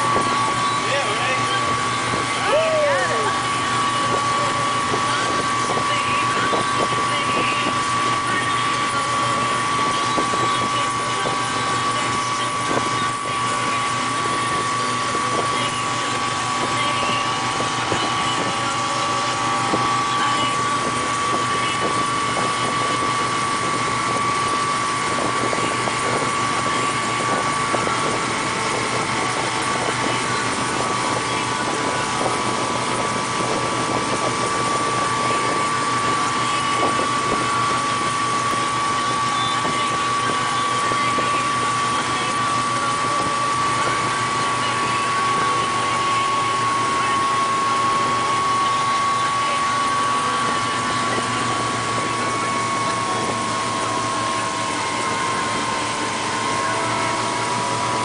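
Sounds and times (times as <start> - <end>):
boat engine whining: 0.0 - 58.0
rush of wind and water: 0.0 - 58.0.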